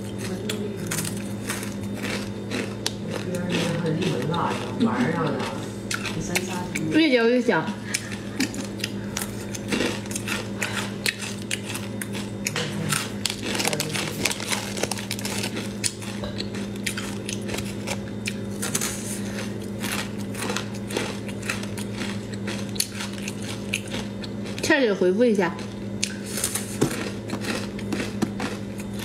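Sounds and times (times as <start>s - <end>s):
crisp rice crust crunching: 0.0s - 4.8s, 8.0s - 24.7s, 25.6s - 29.0s
steady low hum: 0.0s - 29.0s.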